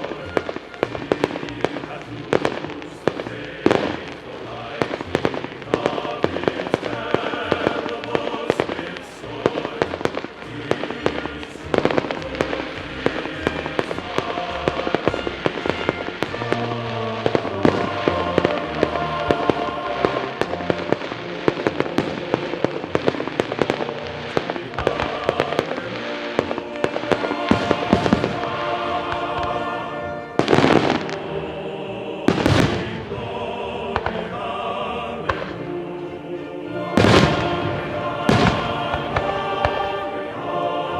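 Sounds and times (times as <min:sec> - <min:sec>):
fireworks bangs: 0:00.0 - 0:31.2, 0:32.3 - 0:33.3, 0:33.9 - 0:34.3, 0:35.2 - 0:35.6, 0:36.8 - 0:40.2
music: 0:00.0 - 0:40.9.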